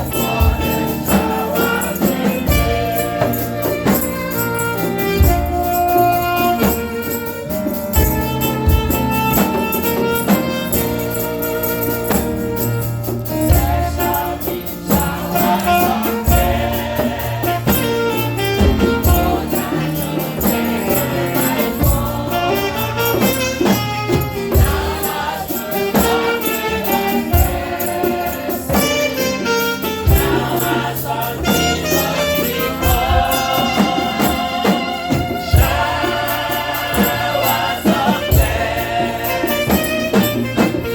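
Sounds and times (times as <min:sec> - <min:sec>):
church choir singing: 0:00.0 - 0:40.9
tambourine shaking: 0:00.0 - 0:40.9.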